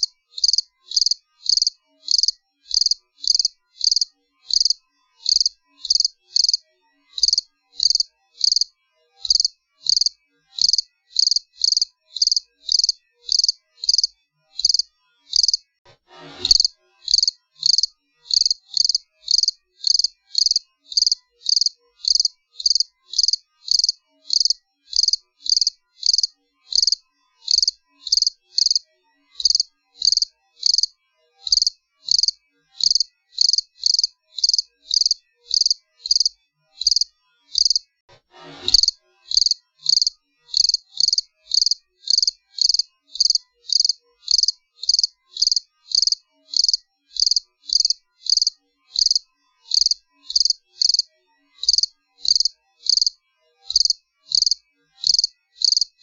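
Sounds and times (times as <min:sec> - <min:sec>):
cricket chirping: 0:00.0 - 0:06.6, 0:07.2 - 0:15.6, 0:16.5 - 0:28.8, 0:29.4 - 0:30.9, 0:31.5 - 0:37.8, 0:38.8 - 0:55.9.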